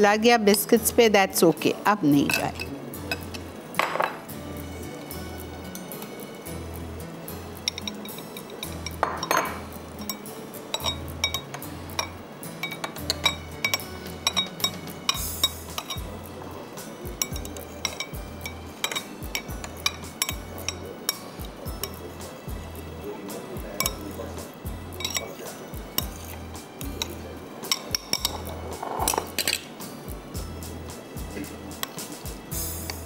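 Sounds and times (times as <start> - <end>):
utensils clinking on dishes: 1.4 - 6.6, 7.5 - 30.0
background music with bass: 2.2 - 33.0.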